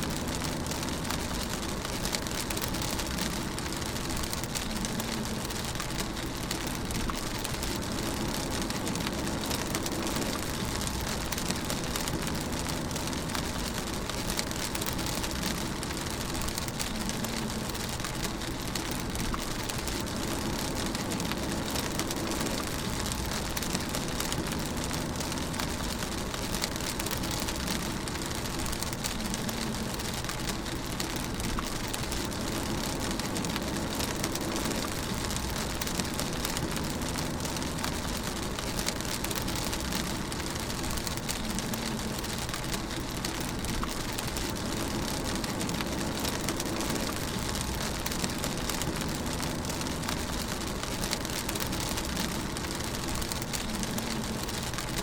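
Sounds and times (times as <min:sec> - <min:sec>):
low rumble of car and road: 0:00.0 - 0:55.0
rain drumming on a car: 0:00.0 - 0:55.0.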